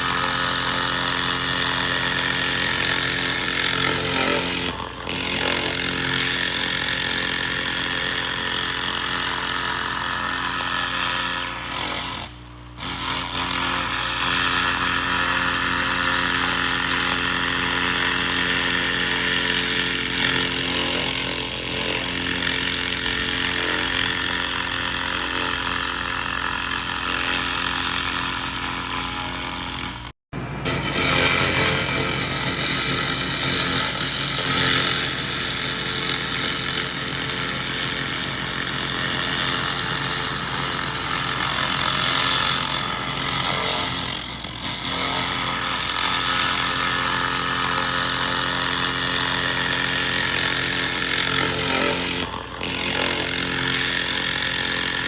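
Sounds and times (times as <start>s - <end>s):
constant machine hum: 0.0s - 55.0s.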